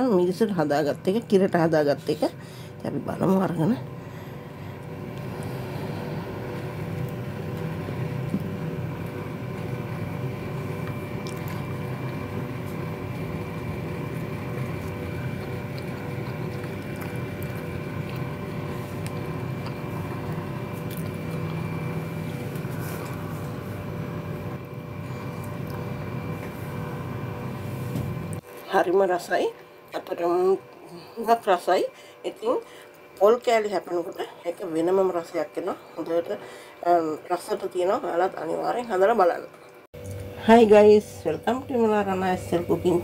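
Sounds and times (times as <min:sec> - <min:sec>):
mechanical hum: 0:00.0 - 0:43.0.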